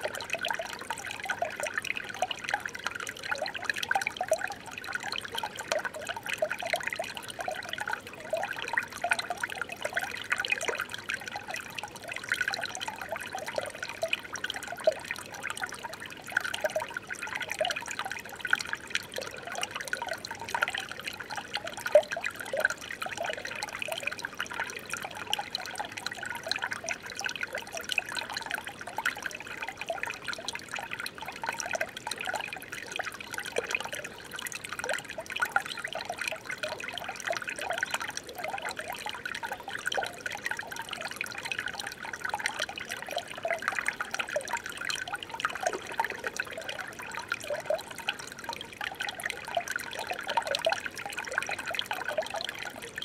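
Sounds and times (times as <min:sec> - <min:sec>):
shallow water babbling: 0:00.0 - 0:53.0.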